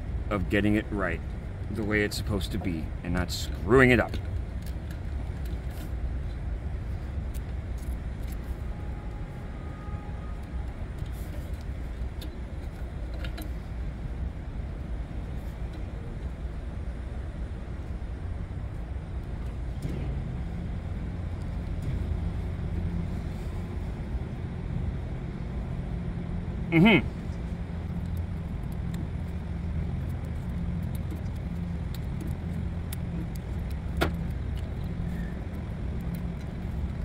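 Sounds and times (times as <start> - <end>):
low machinery rumble: 0.0 - 37.0.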